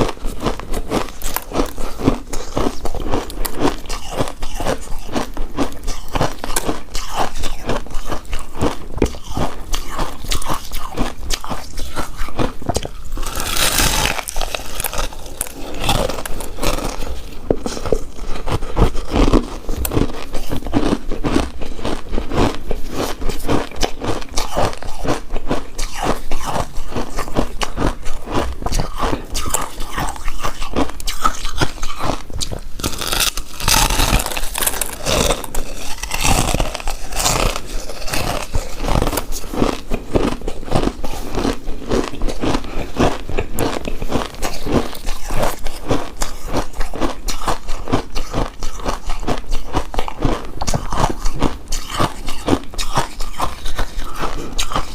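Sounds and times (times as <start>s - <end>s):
chewing chewy food: 0.0s - 54.9s.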